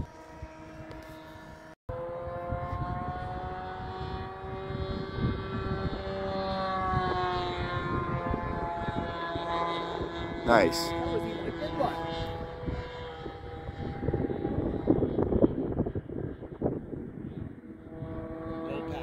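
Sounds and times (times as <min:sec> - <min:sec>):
model plane engine and propeller: 0:00.0 - 0:19.0.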